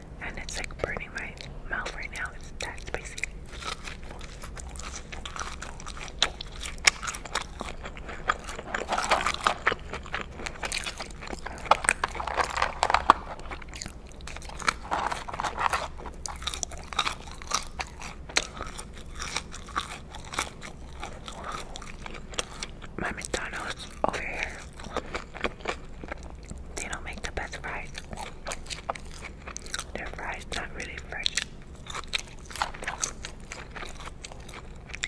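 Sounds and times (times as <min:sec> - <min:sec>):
person chewing crunchy fries: 0:00.2 - 0:35.0.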